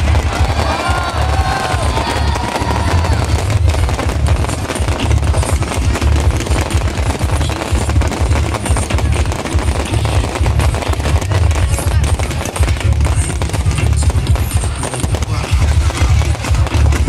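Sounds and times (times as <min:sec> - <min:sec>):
fireworks banging and crackling: 0:00.0 - 0:17.0
heavy low fireworks booms: 0:00.0 - 0:17.0.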